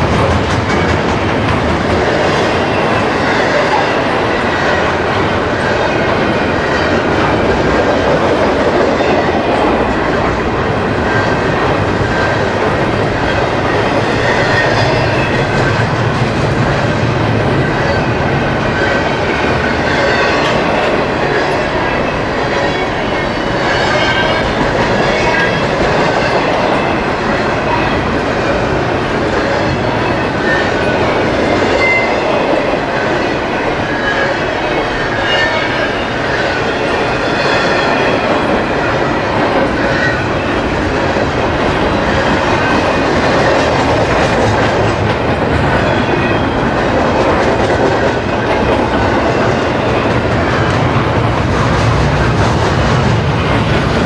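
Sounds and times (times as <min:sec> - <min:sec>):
freight train wheels rolling: 0:00.0 - 0:54.0.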